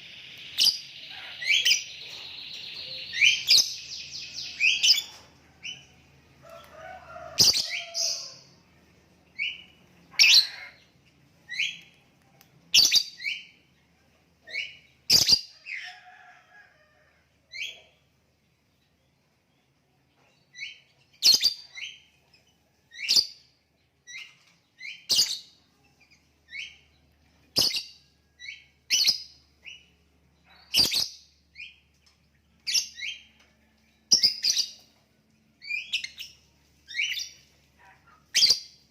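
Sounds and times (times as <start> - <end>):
bird chirping: 0.0 - 6.7, 7.3 - 16.1, 17.5 - 38.9.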